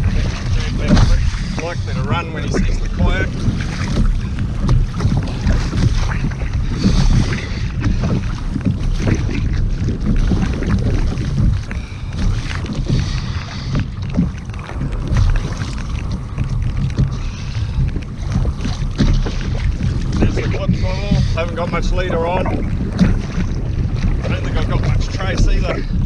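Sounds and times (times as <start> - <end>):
waves washing against hull: 0.0 - 26.0
wind buffeting microphone: 0.0 - 26.0.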